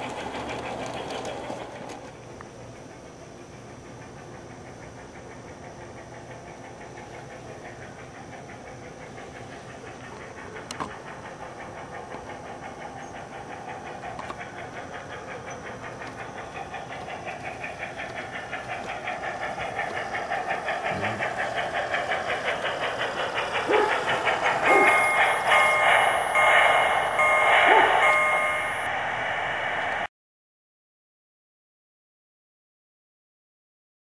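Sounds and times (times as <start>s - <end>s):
steam locomotive chuffing: 0.0s - 30.1s.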